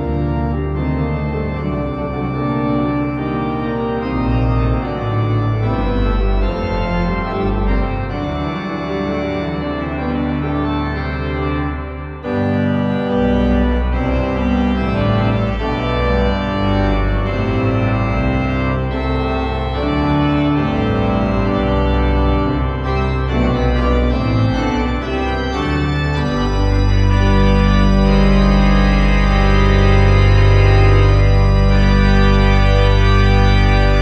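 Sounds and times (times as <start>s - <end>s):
pipe organ chords: 0.0s - 34.0s.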